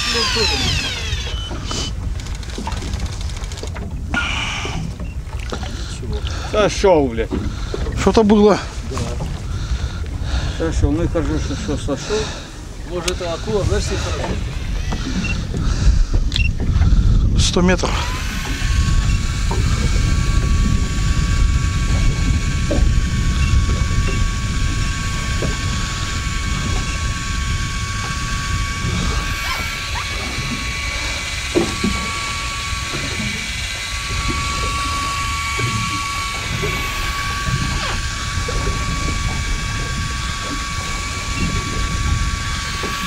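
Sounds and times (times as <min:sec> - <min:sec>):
electric motor whining: 0:00.0 - 0:43.0
wind and water rumble: 0:00.0 - 0:43.0.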